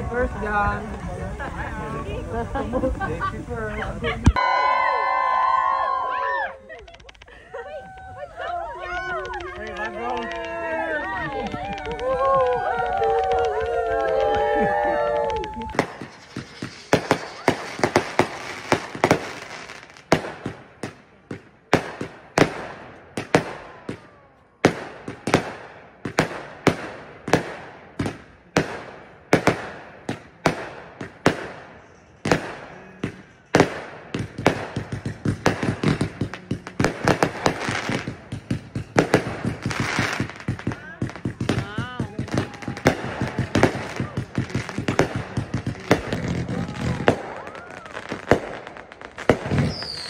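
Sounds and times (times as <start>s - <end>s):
fireworks banging: 0.0s - 6.0s, 6.7s - 50.0s.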